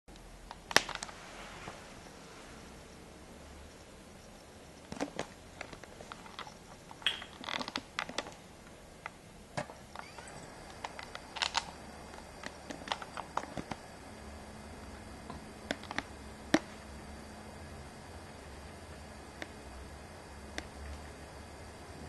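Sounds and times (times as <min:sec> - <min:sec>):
faint low hum: 0:00.1 - 0:22.0.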